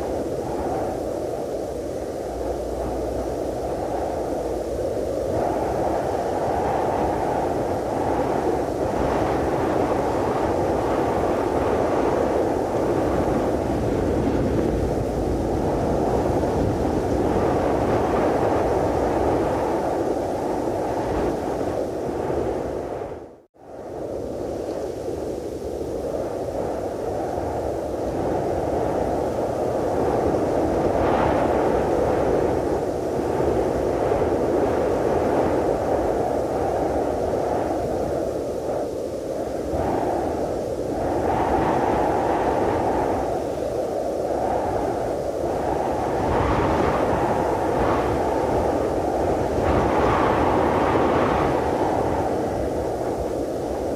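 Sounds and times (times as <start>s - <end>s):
deep rushing wind: 0.0s - 53.9s.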